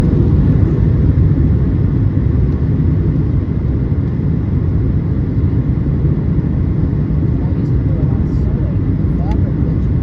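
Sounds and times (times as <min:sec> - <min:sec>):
airplane low rumble: 0:00.0 - 0:10.0.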